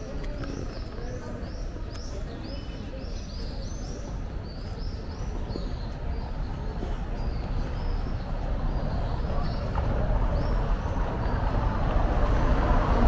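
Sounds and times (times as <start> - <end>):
birds chirping: 0.0 - 13.0
low rumble of street noise: 0.0 - 13.0.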